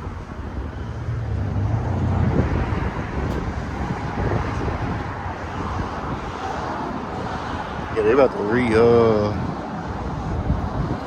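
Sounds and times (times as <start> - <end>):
roar of passing vehicles: 0.0 - 11.0
vehicle low rumble: 0.0 - 11.0.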